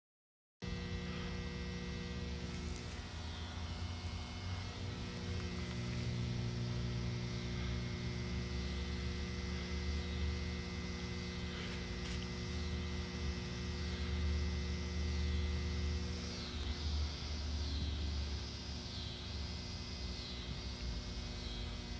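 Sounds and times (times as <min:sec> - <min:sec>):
low electrical hum: 0:00.6 - 0:21.9.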